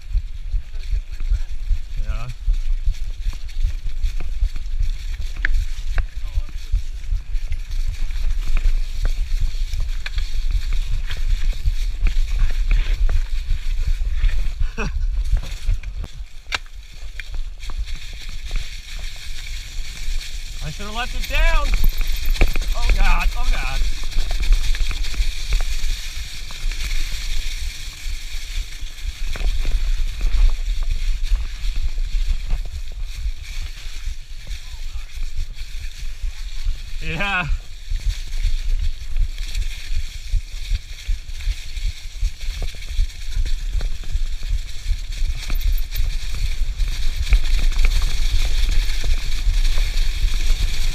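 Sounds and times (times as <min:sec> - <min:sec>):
bike clicking and rattling: 0:00.0 - 0:50.9
tyres crunching over leaves: 0:00.0 - 0:50.9
wind rumble on microphone: 0:00.0 - 0:50.9.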